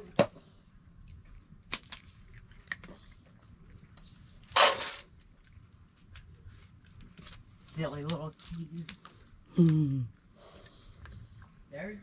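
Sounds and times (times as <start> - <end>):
cats crunching dry kibble: 0.9 - 11.6.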